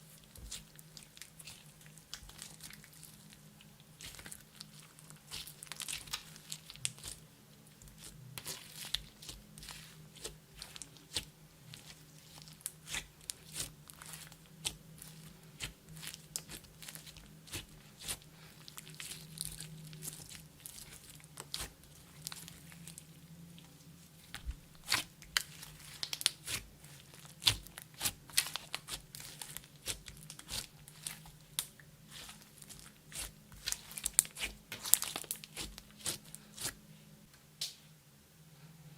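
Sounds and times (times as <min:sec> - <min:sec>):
faint low hum: 0:00.0 - 0:38.9
hands squishing sticky slime: 0:00.1 - 0:23.0, 0:23.6 - 0:36.8.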